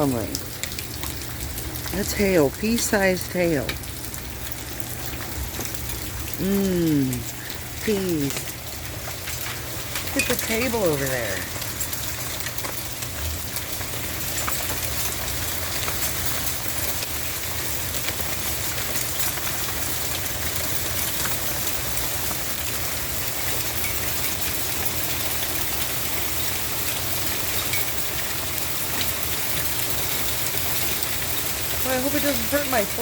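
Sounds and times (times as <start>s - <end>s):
hail and rain falling: 0.0s - 33.0s.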